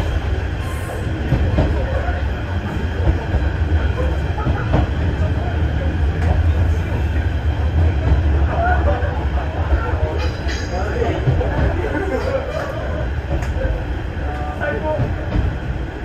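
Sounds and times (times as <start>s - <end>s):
wheel and rail noise: 0.0s - 16.0s.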